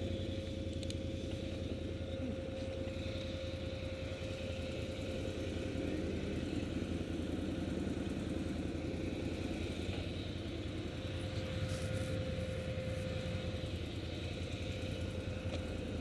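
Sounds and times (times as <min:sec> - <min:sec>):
quad bike engine idling: 0:00.0 - 0:16.0.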